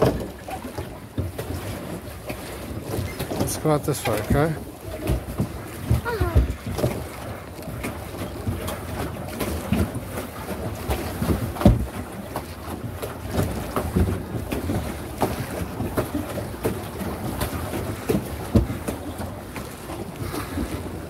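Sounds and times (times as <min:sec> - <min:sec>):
water slapping against plastic hull: 0:00.0 - 0:21.0.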